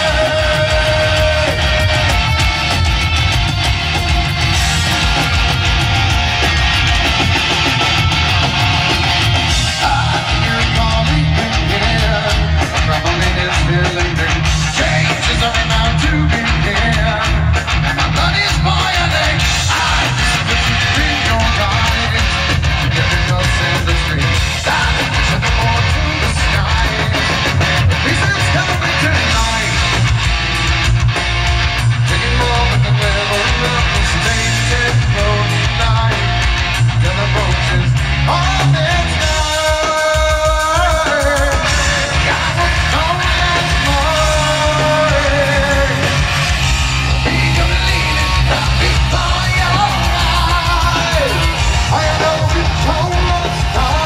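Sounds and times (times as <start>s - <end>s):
person singing: 0.0s - 2.8s, 9.6s - 30.0s, 32.1s - 54.0s
heavy metal band playing live: 0.0s - 54.0s.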